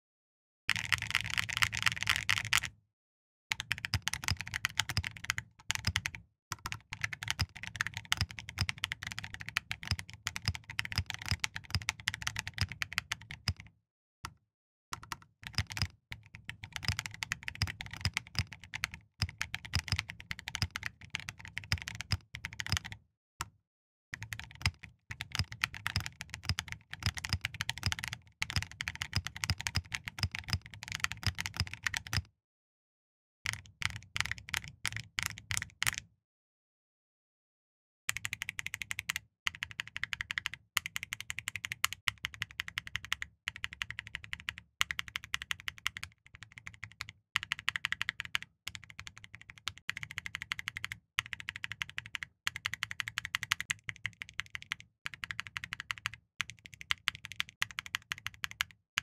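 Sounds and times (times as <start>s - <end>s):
mechanical keyboard typing: 0.7s - 2.7s, 3.5s - 13.6s, 15.0s - 23.0s, 24.2s - 32.2s, 33.5s - 36.0s, 38.1s - 58.8s.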